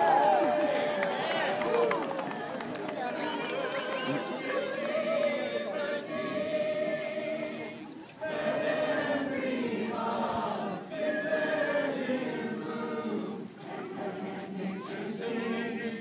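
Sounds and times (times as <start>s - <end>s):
crowd singing: 0.0s - 16.0s.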